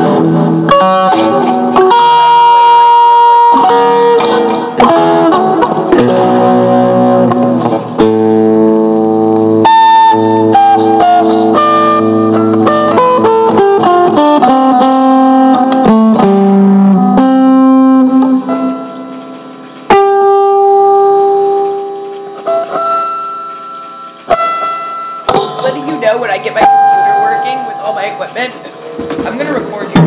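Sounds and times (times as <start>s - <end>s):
guitar strumming and picking: 0.0s - 30.0s.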